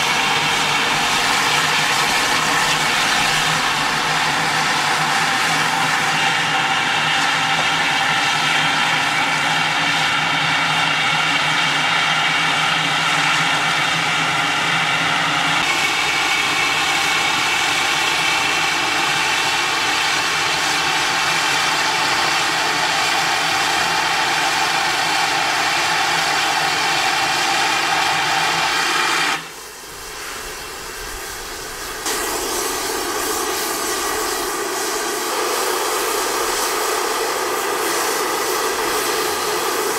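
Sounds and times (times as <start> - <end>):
steam hissing and roaring: 0.0 - 39.9.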